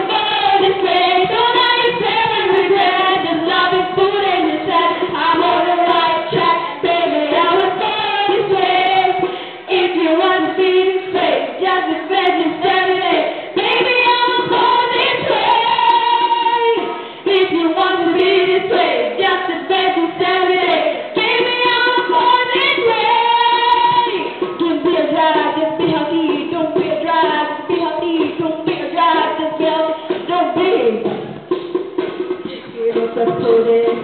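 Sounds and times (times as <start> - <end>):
girls singing a pop song: 0.0 - 31.6.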